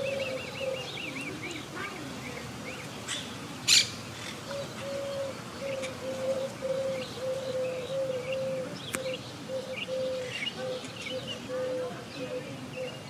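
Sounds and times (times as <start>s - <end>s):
dove cooing: 0.0s - 2.4s, 3.1s - 13.0s.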